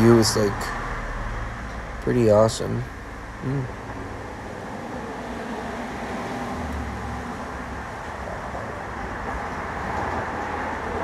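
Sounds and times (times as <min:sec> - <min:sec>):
road noise inside moving vehicle: 0:00.0 - 0:11.0.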